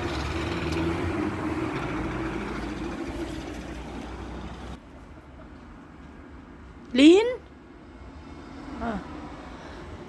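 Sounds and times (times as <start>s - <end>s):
vehicle engine and tyre noise: 0.0s - 10.0s.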